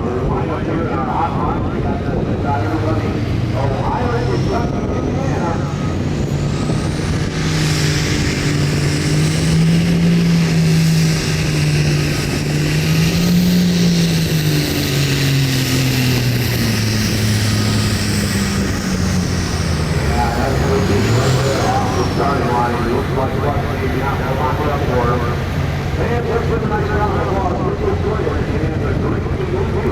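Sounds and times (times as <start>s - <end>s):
tractor diesel engine running hard: 0.0s - 29.9s.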